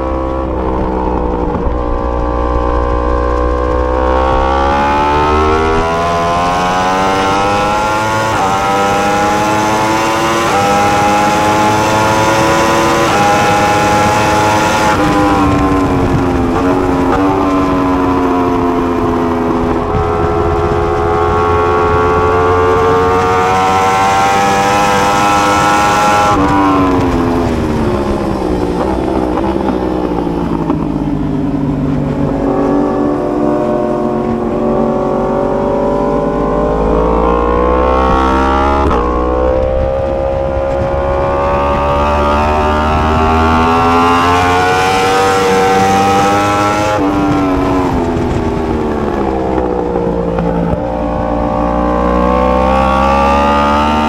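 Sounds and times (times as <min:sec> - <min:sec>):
motorcycle engine at full throttle: 0:00.0 - 0:54.0.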